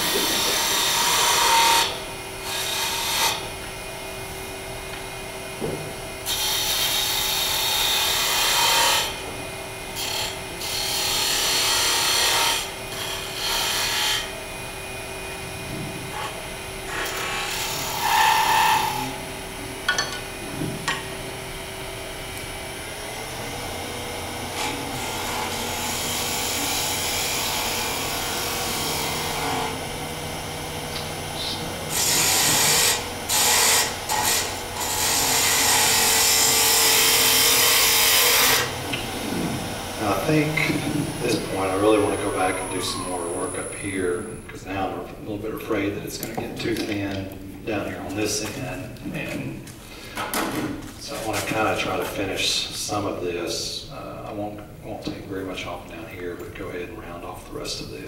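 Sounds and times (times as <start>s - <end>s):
wood lathe humming: 0.0s - 48.4s.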